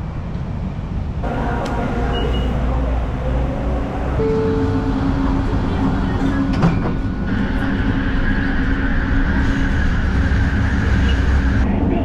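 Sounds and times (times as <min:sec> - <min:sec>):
train rumble: 0:00.0 - 0:12.0
train high whine: 0:01.2 - 0:11.6.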